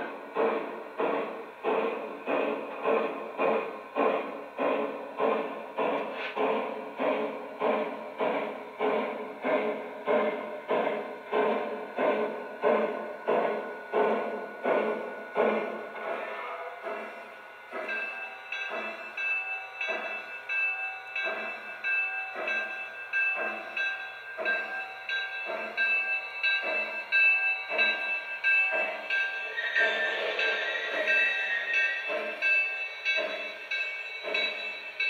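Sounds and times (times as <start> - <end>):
model train steam chuffs: 0.0 - 20.6, 21.2 - 35.0.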